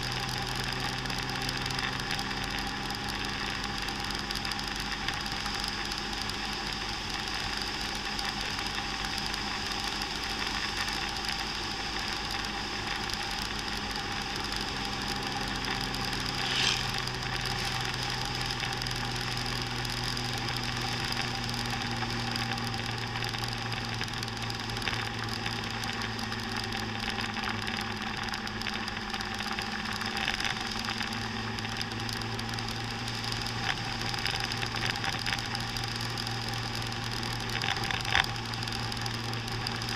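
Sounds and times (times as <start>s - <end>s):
motor scooter engine running: 0.0s - 39.9s
wind and road noise: 0.0s - 39.9s.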